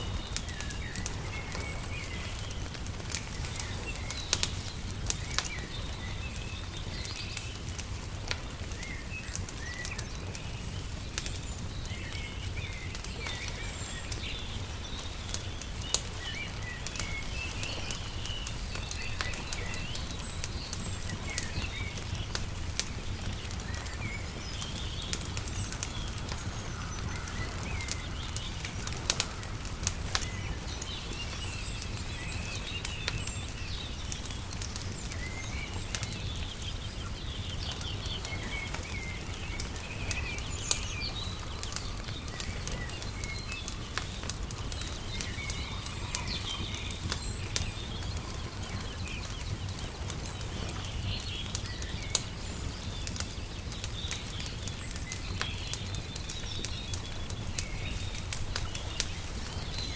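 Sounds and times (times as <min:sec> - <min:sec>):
small birds chirping: 0:00.0 - 0:59.9
wood fire crackling and popping: 0:00.0 - 0:59.9.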